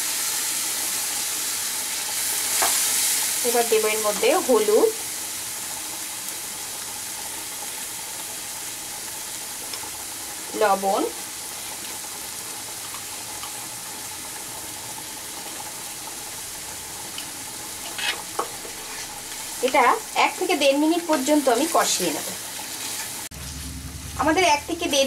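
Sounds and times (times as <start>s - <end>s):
spice paste sizzling in oil: 0.0s - 25.0s.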